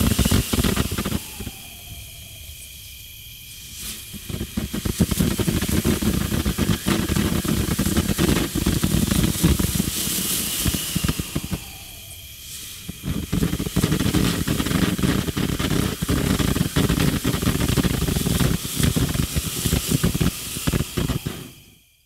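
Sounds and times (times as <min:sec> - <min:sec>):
firework fountain hissing and crackling: 0:00.0 - 0:22.0.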